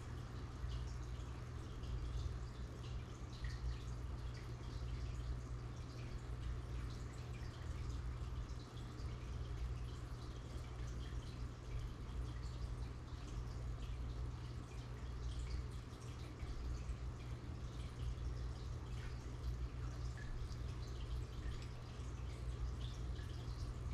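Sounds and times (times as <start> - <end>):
steady low hum: 0.0 - 23.9
water trickling: 0.0 - 23.9.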